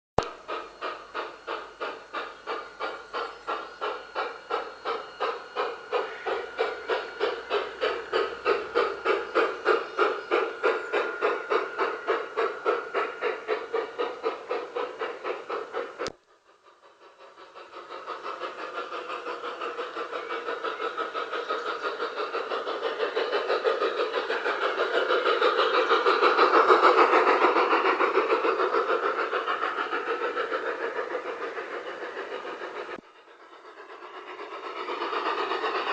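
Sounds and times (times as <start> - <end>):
electronic steam locomotive chuffing: 0.2 - 35.9.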